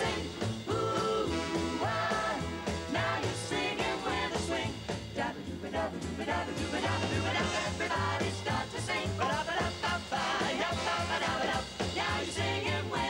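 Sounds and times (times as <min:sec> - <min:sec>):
pulsing bass line: 0:00.0 - 0:13.0
swing band backing: 0:00.0 - 0:13.0
vocal harmony group singing: 0:00.0 - 0:13.0.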